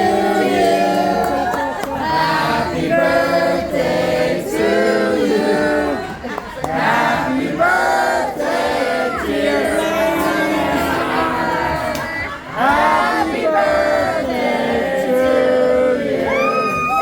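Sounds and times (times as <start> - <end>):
group of people singing together: 0.0 - 17.0.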